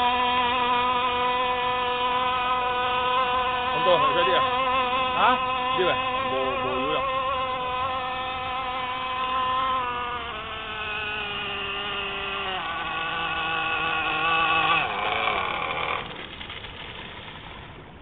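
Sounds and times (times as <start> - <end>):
model boat engine buzzing: 0.0 - 18.0.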